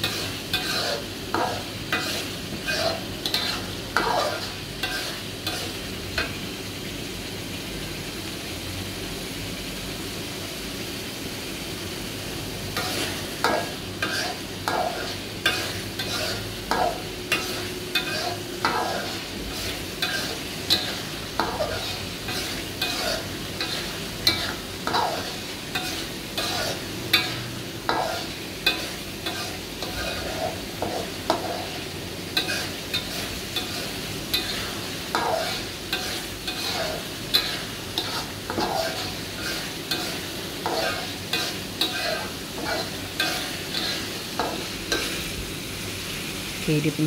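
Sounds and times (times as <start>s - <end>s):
metal spoon scraping a wok: 0.0s - 6.4s, 12.7s - 45.2s
paste sizzling in oil: 0.0s - 47.0s.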